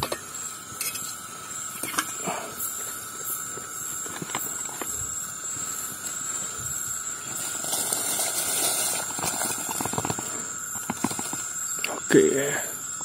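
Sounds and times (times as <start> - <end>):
pot of water hissing: 0.0 - 13.0.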